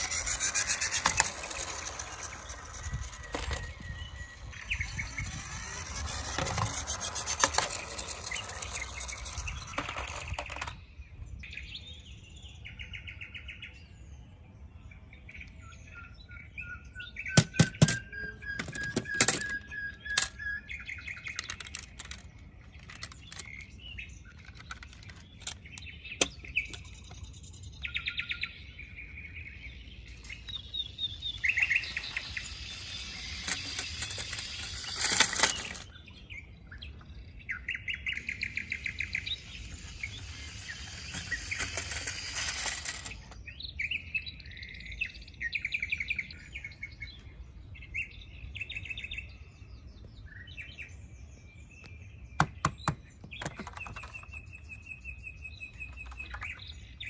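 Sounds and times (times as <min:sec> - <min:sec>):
birds chirping in rapid trills: 0:00.0 - 0:57.0.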